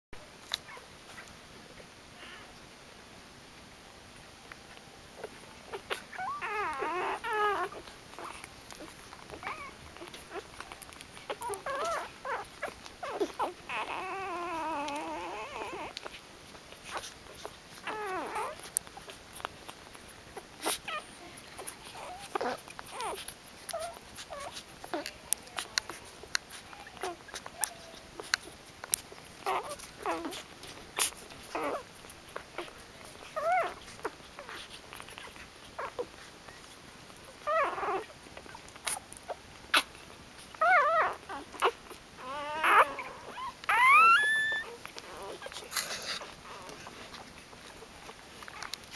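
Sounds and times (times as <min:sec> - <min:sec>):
puppies whimpering and squealing: 0:04.7 - 0:48.9.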